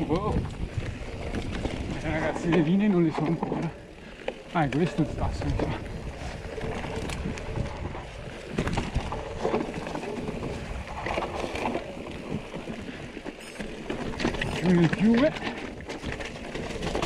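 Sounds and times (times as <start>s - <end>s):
bike tyres and frame rattling: 0.0s - 17.0s
wind rush on microphone: 0.0s - 17.0s.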